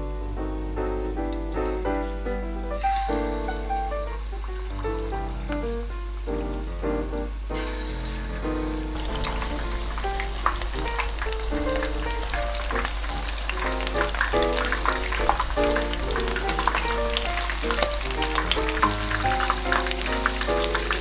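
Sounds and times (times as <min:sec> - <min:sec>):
background music: 0:00.0 - 0:21.0
chicken deep-frying in oil: 0:02.6 - 0:21.0.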